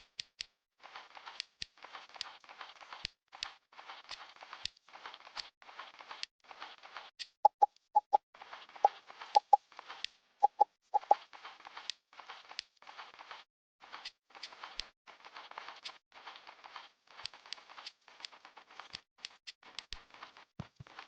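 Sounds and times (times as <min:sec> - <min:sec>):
plastic building bricks clicking: 0:00.0 - 0:07.4, 0:11.0 - 0:21.0.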